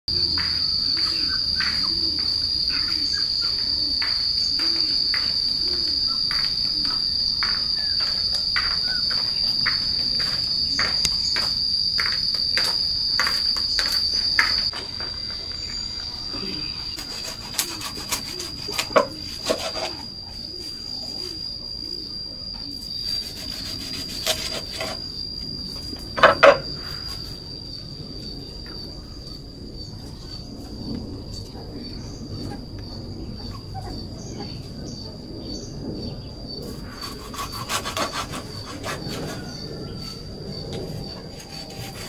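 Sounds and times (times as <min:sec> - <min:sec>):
high-pitched insect drone: 0:00.1 - 0:42.0.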